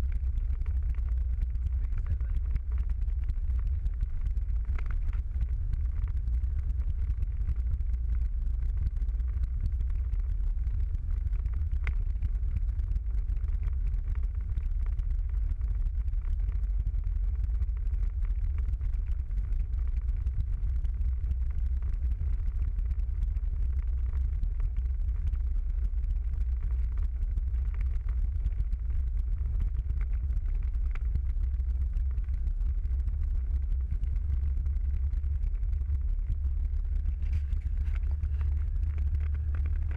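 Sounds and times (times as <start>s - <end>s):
car interior road rumble: 0.0s - 39.9s
faint ticks: 0.0s - 39.9s.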